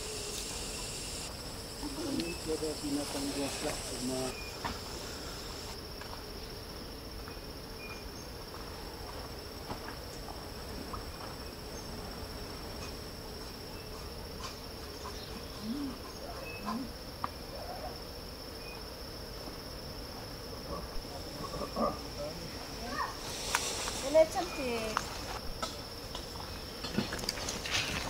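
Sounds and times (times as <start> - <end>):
high-pitched insect drone: 0.0 - 8.5, 9.2 - 28.0.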